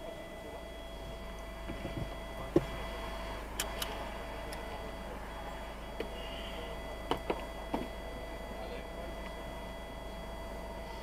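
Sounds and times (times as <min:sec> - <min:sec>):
low hum in vehicle cab: 0:00.0 - 0:11.0.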